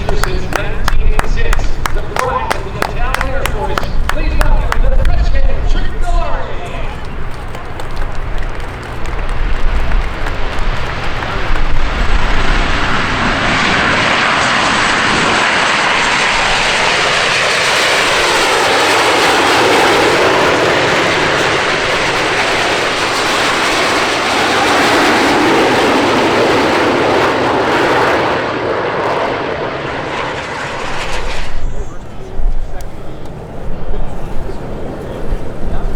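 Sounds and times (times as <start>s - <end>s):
airplane engines flying past: 0.0s - 35.9s.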